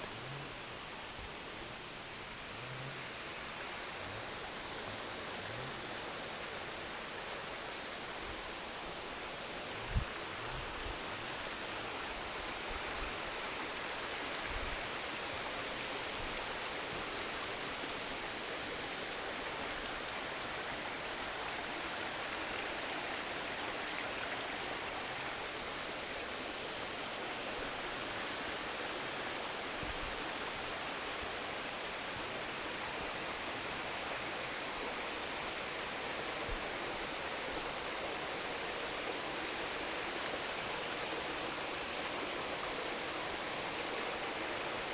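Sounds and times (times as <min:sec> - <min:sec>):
water rushing in a stream: 0:00.0 - 0:44.9.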